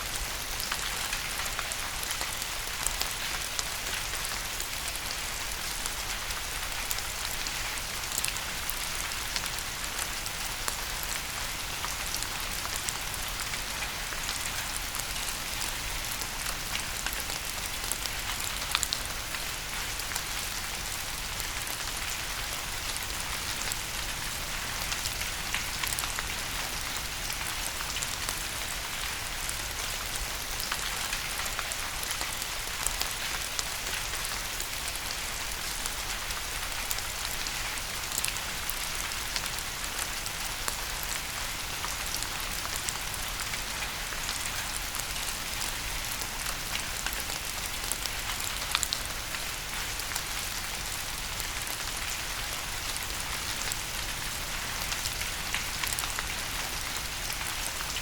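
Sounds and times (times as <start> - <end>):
rain falling on a surface: 0.0 - 58.0
raindrops pattering: 0.0 - 58.0.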